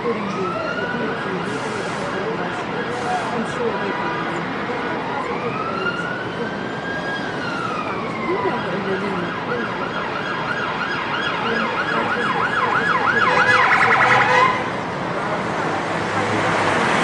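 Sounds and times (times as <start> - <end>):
emergency vehicle siren: 0.0 - 14.9
street noise: 0.0 - 17.0.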